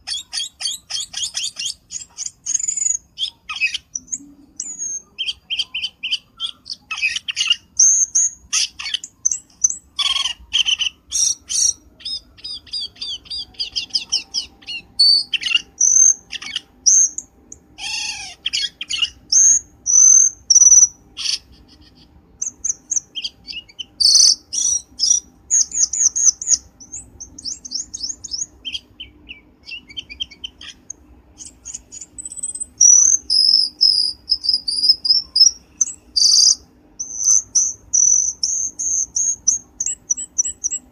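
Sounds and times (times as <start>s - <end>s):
bird song chirps and trills: 0.0s - 40.9s.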